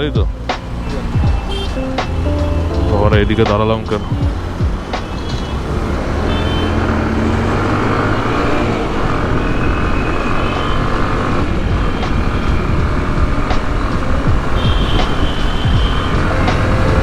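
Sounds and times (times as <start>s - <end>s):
heavy road traffic engines: 0.0s - 17.0s.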